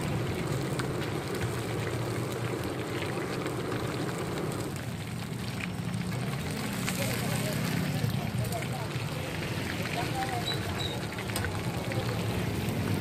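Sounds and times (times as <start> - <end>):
oil sizzling and popping: 0.0 - 13.0.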